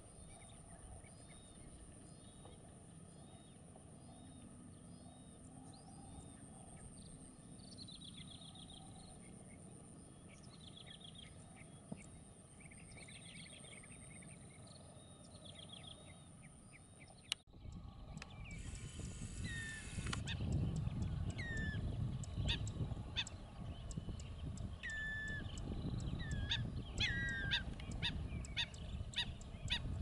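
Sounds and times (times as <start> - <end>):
faint bird chirps: 0.0 - 30.0.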